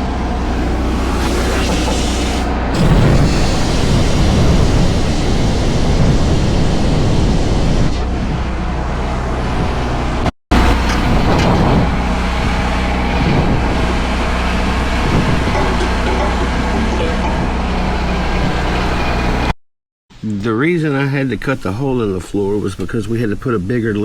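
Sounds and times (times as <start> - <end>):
excavator engine running: 0.0 - 19.6.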